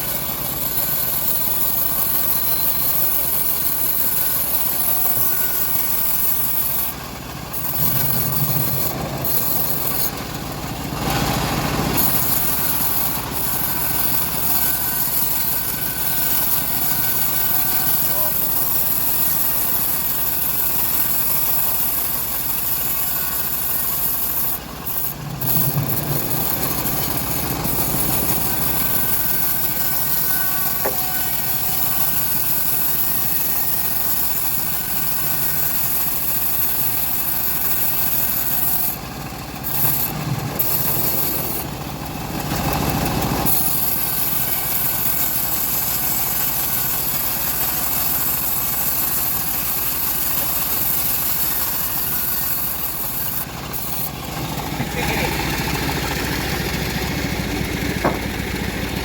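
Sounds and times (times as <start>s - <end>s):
band sawmill cutting log: 0.0s - 59.0s.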